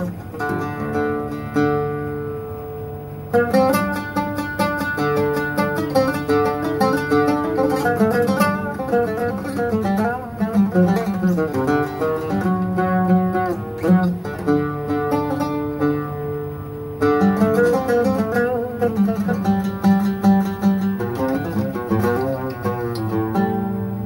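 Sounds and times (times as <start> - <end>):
oud melody: 0.0 - 24.0.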